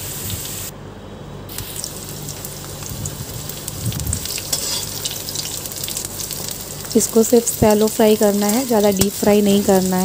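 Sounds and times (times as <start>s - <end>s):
vegetables sizzling in hot oil: 0.0s - 0.7s, 1.5s - 10.0s.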